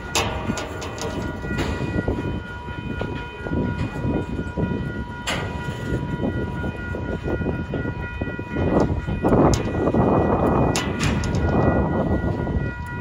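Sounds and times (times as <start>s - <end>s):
freight train wheels clattering: 0.0s - 13.0s
high ringing tone: 0.0s - 13.0s.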